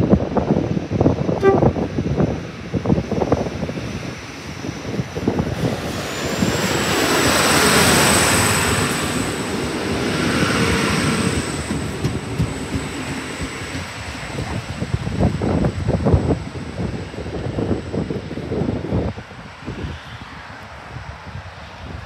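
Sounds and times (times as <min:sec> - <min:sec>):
diesel railcar passing: 0:00.0 - 0:22.0
wheels on rail: 0:00.2 - 0:22.0.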